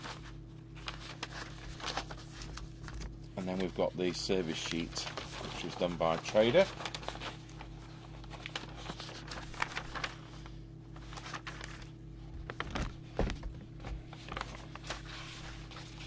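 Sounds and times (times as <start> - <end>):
paper pages rustling: 0.0 - 16.0
steady low hum: 0.0 - 16.0.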